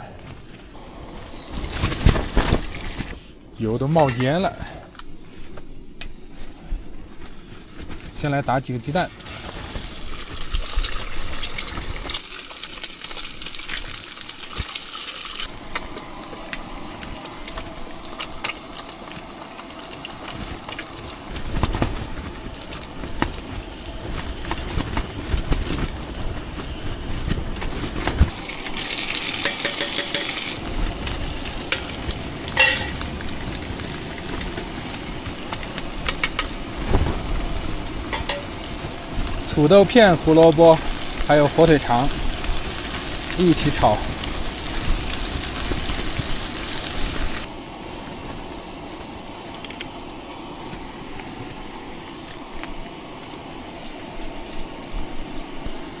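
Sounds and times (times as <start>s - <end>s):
eggs sizzling in hot oil: 8.9s - 56.0s.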